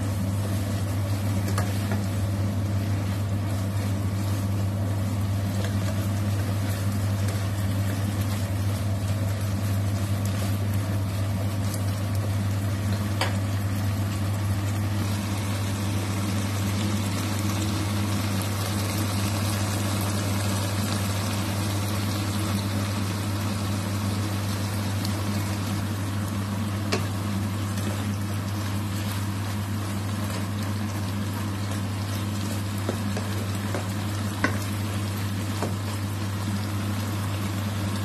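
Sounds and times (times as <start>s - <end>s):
food sizzling in a wok: 0.0s - 38.0s
steady low hum: 0.0s - 38.0s.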